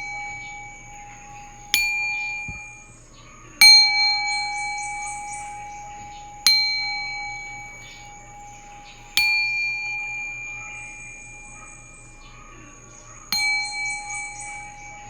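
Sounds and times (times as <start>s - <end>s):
high tinkling: 0.0s - 15.0s
singing bowl ringing: 0.0s - 15.0s.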